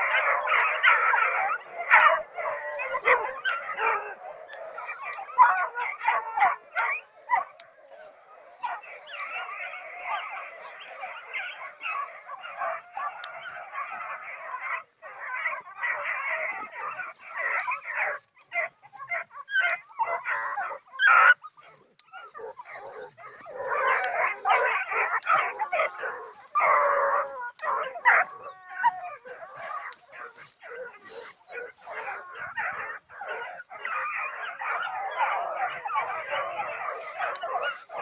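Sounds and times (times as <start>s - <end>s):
hound puppies baying and yelping: 0.0s - 38.0s.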